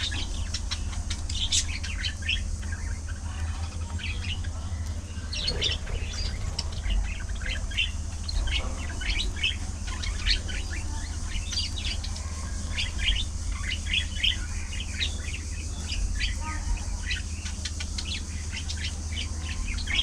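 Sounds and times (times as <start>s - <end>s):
budgerigars chattering: 0.0s - 20.0s
steady low hum: 0.0s - 20.0s.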